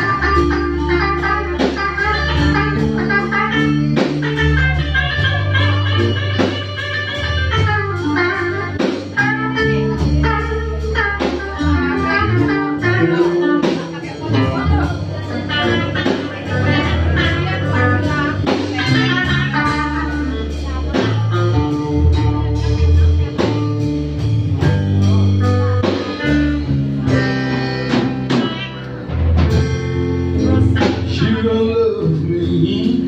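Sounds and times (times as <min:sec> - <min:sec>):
blues band playing: 0:00.0 - 0:33.0
electric guitar: 0:00.0 - 0:33.0.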